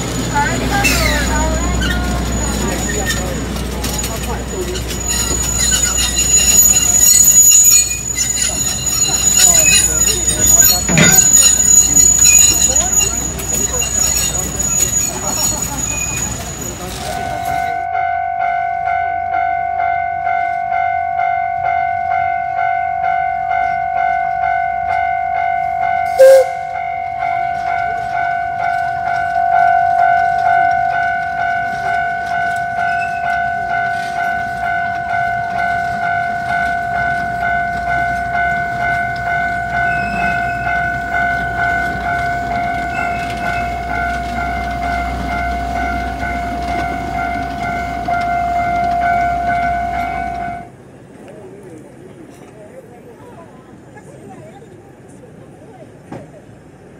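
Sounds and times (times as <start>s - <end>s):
steam train rumbling: 0.0s - 17.8s, 23.5s - 56.9s
railway crossing bell ringing: 0.0s - 50.7s.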